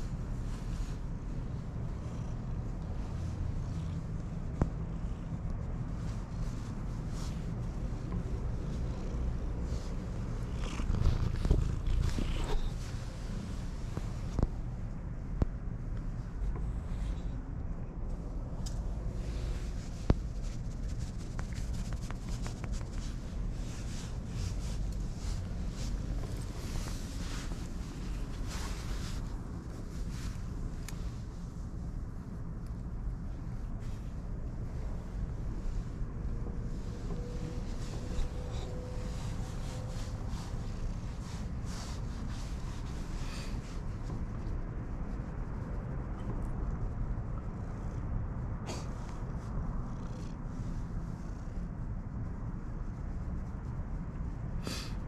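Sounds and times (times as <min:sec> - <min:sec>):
hand stroking cat fur: 0:00.0 - 0:54.9
steady low rumble: 0:00.0 - 0:55.0.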